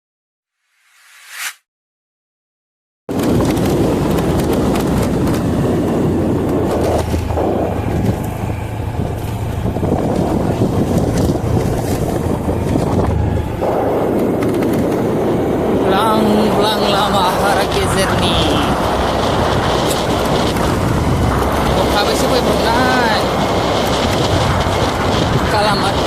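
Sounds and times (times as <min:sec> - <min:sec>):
vehicle humming: 0:03.1 - 0:26.0
wind buffeting microphone: 0:03.1 - 0:26.0.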